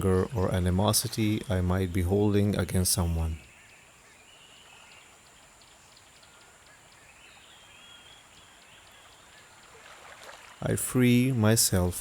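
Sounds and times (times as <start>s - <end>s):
birds chirping: 0.0s - 12.0s
soft outdoor hiss: 0.0s - 12.0s.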